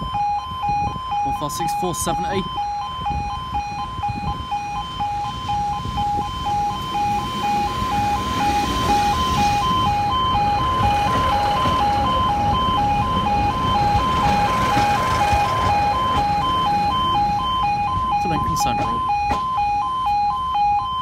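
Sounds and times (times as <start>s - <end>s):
two-tone level crossing alarm: 0.0s - 21.0s
diesel train passing: 1.4s - 21.0s.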